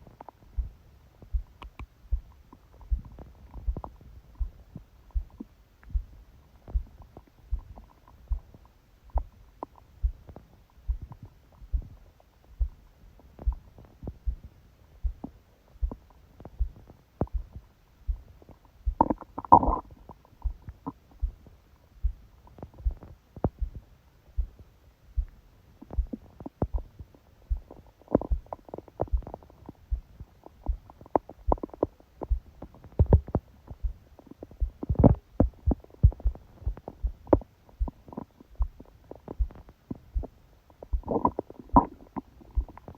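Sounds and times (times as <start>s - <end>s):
stomach growling and gurgling: 0.0s - 17.7s, 18.3s - 21.6s, 25.8s - 42.9s
fast heartbeat thumps: 0.0s - 42.9s.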